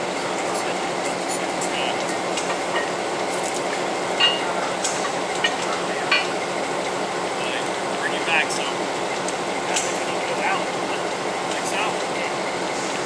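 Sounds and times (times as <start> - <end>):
locomotive idling: 0.0 - 13.0.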